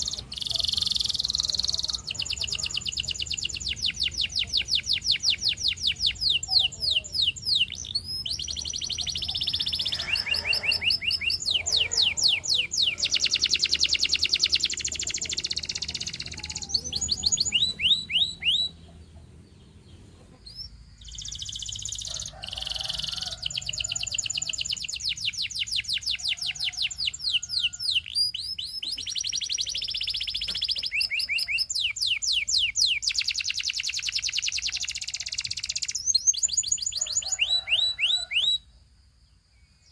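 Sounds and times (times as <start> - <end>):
canary singing trills: 0.0 - 38.7.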